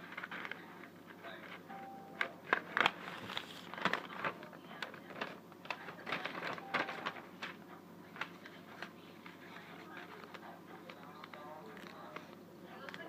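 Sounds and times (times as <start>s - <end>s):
paper and sticks handled: 0.0s - 12.4s.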